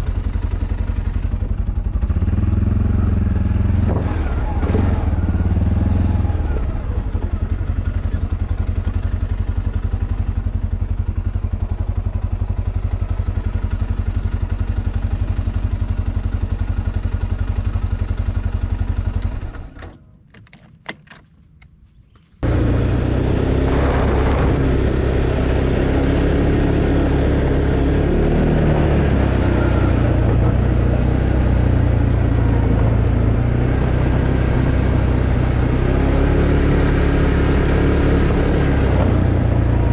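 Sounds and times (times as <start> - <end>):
atv engine running: 0.0 - 19.8, 22.4 - 39.9.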